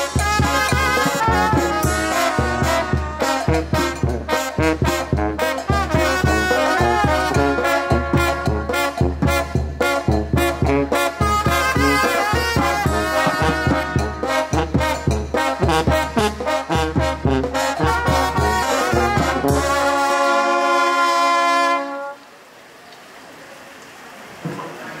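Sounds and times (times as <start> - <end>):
brass band playing: 0.0 - 22.2.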